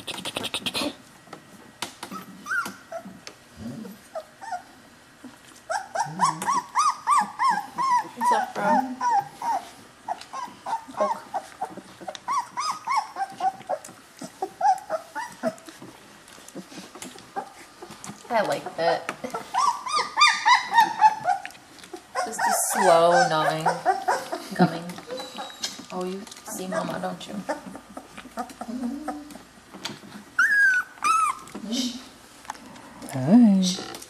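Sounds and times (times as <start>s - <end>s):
puppies whimpering: 2.1s - 4.8s, 5.6s - 18.0s, 18.6s - 31.7s.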